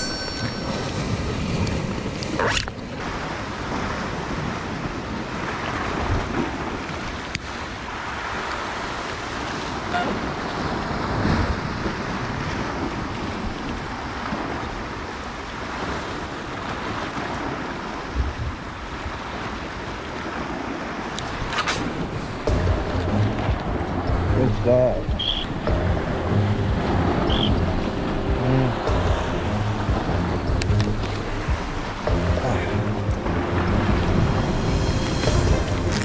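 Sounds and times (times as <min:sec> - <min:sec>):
sea waves washing against rocks: 0:00.0 - 0:36.0.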